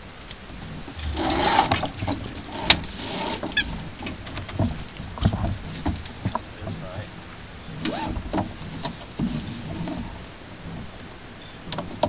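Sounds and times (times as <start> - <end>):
rustling in a dinghy: 0.0 - 12.0.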